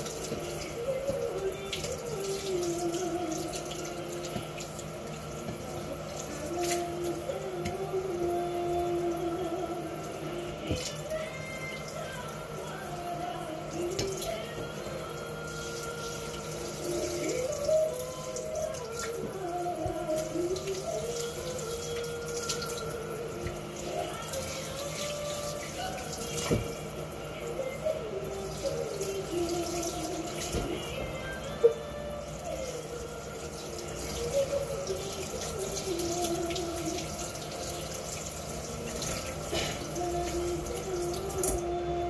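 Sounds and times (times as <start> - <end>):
tap water running into metal sink: 0.0 - 41.7.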